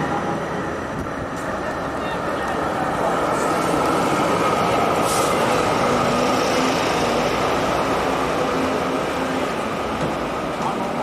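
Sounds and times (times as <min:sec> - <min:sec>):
tram electric hum: 0:00.0 - 0:11.0.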